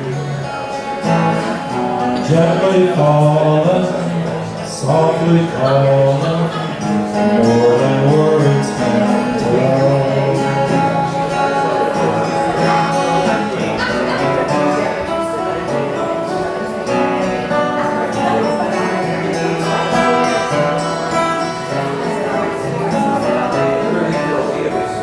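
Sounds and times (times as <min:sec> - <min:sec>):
live folk-rock guitar music: 0:00.0 - 0:25.0.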